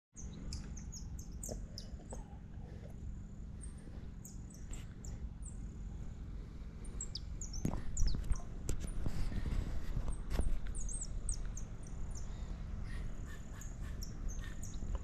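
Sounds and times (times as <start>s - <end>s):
steady low rumble: 0.2s - 15.0s.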